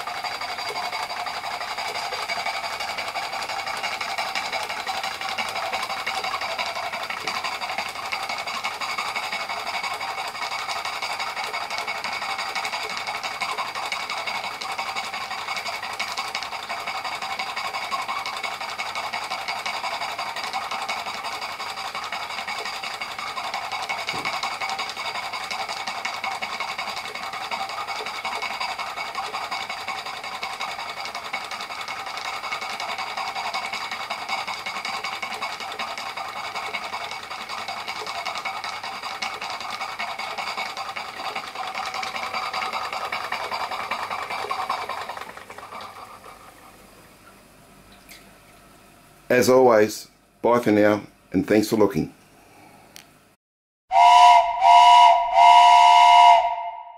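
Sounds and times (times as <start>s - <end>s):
steam engine clattering: 0.0s - 46.9s.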